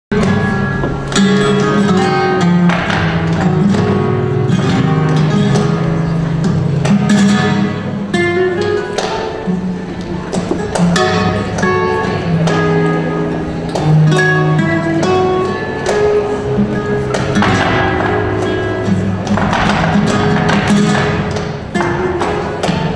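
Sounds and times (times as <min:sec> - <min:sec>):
flamenco guitar playing: 0:00.1 - 0:22.9.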